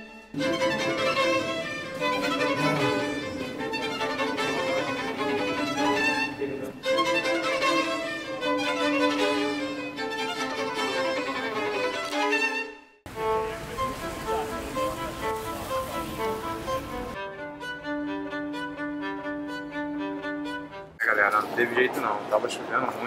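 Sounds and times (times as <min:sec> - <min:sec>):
violin playing slow melody: 0:00.0 - 0:21.0.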